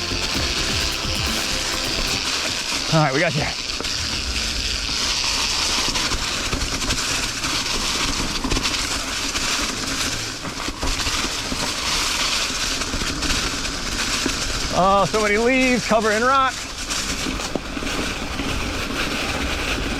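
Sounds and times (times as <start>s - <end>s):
bike tyres rushing through leaves: 0.0s - 19.9s.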